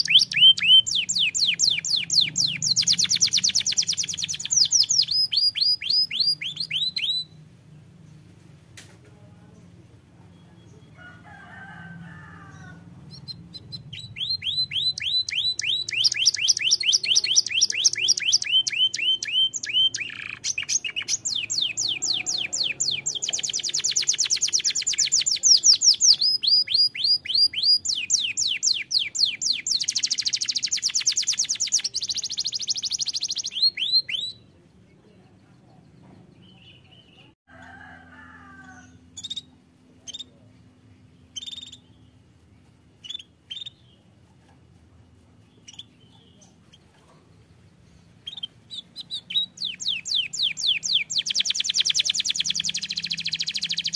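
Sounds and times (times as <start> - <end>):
canary singing trills: 0.0 - 8.3, 12.5 - 34.9, 38.6 - 53.9
faint bird chirps: 0.0 - 8.4, 12.1 - 37.4, 38.6 - 53.9.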